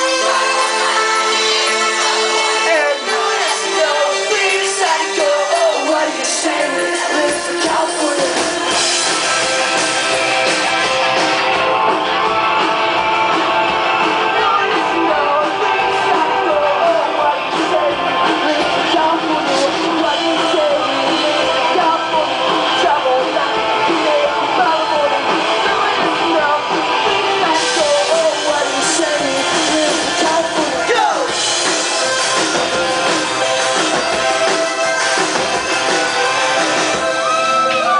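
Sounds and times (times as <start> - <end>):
pop-rock band playing: 0.0 - 37.9.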